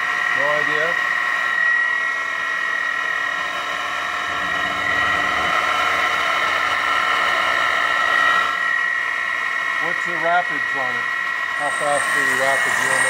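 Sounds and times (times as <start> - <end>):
lathe whining and humming: 0.0 - 13.0.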